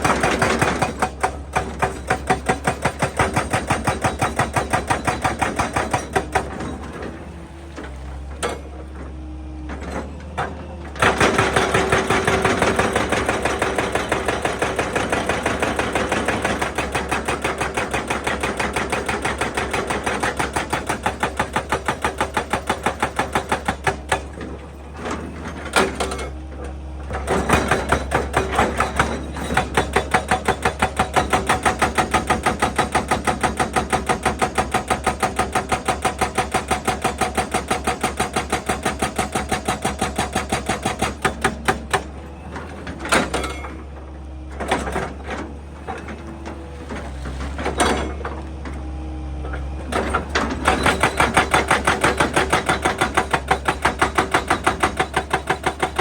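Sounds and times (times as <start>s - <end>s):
hydraulic breaker hammering rock: 0.0s - 9.0s, 9.8s - 26.3s, 27.1s - 44.0s, 49.8s - 56.0s
excavator engine running: 0.0s - 56.0s.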